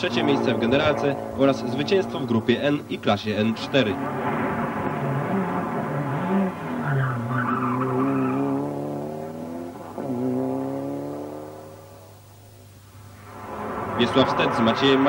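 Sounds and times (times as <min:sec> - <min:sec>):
rally car engine at high revs: 0:00.0 - 0:12.2.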